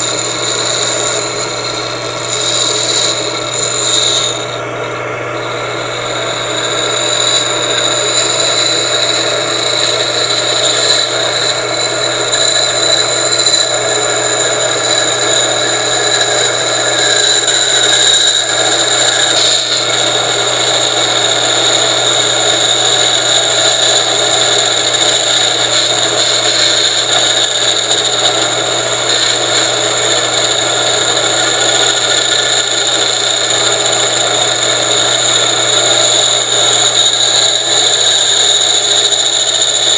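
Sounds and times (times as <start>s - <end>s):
electric motor humming and whining: 0.0s - 39.9s
tool scraping spinning metal: 0.0s - 39.9s.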